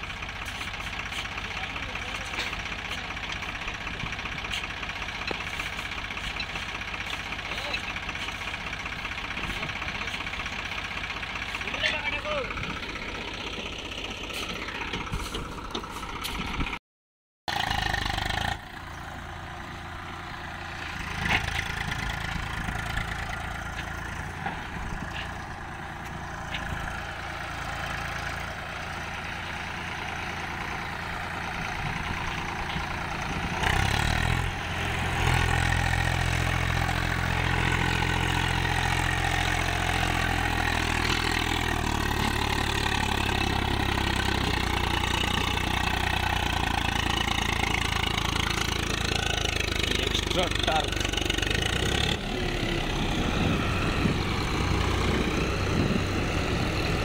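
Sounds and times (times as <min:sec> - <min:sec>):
tractor diesel engine straining: 0:00.0 - 0:16.8, 0:17.5 - 0:57.0.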